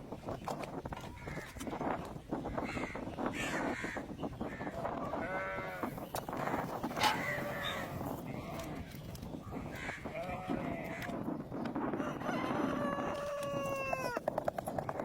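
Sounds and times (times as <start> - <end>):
farmyard animal calls: 1.1 - 15.0.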